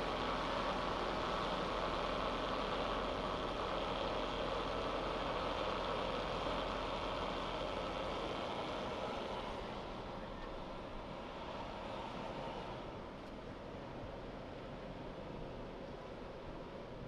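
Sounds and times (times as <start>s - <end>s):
tracked vehicle mechanical noise: 0.0s - 17.0s.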